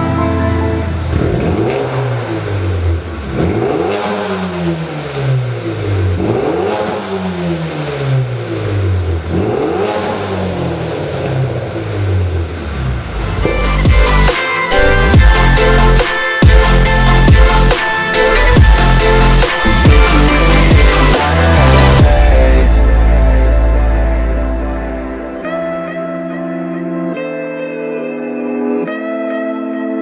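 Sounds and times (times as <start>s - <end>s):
car engine idling and revving: 0.0s - 25.7s.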